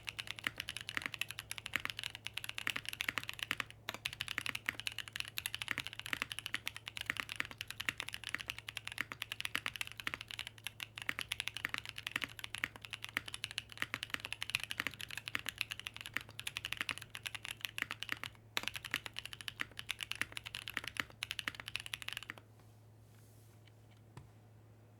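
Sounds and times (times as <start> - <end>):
fast mechanical keyboard typing: 0.0 - 22.4
faint steady low hum: 0.0 - 24.9.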